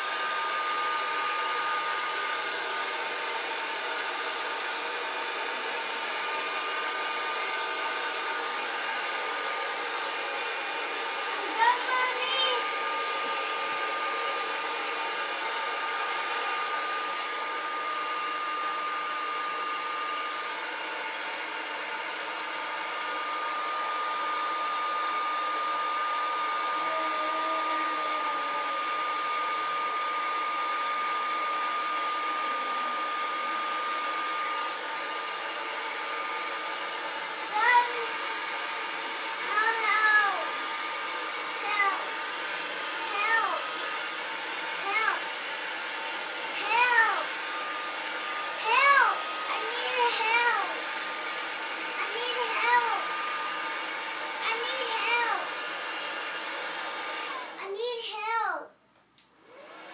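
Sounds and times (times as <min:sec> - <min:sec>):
hair dryer running: 0:00.0 - 0:58.5, 0:59.2 - 0:59.9.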